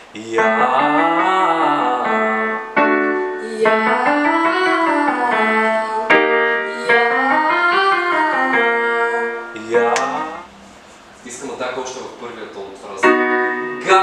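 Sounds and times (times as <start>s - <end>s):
piano playing scale runs: 0.0s - 10.5s, 12.8s - 14.0s.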